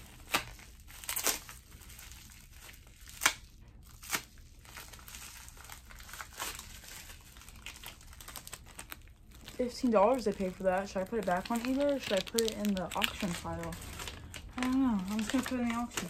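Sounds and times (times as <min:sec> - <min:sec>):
bubble wrap crinkling: 0:00.0 - 0:16.0
bubble wrap snapping: 0:00.0 - 0:16.0.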